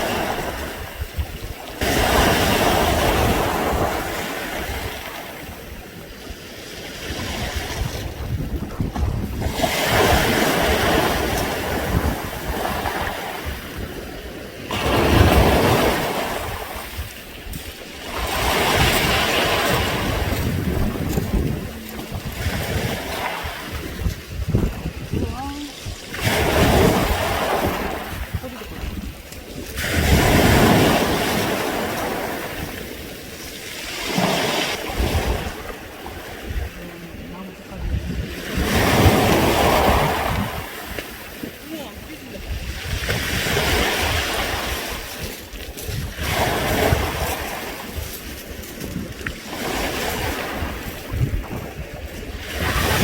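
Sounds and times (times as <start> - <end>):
waves washing on pebble beach: 0.0 - 53.0.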